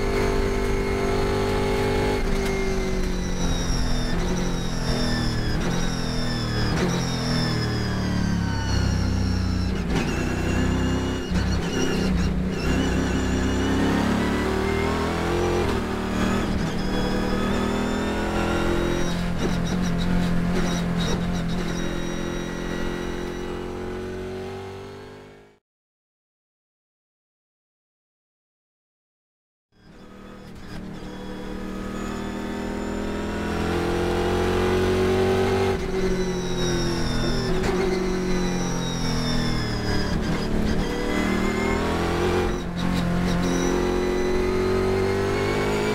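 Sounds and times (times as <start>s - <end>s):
race car engine revving: 0.0s - 25.4s, 29.9s - 45.9s.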